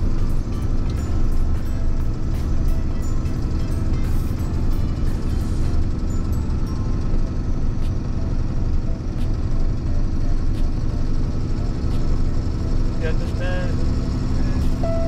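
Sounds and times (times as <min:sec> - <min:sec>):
truck engine drone: 0:00.0 - 0:15.0.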